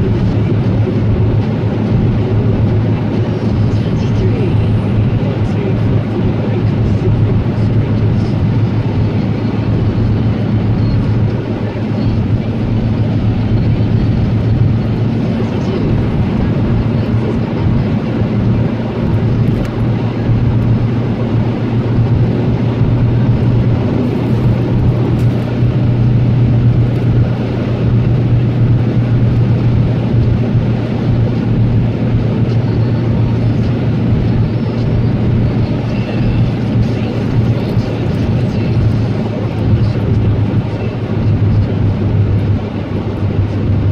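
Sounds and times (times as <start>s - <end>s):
car cabin road noise: 0.0s - 43.9s.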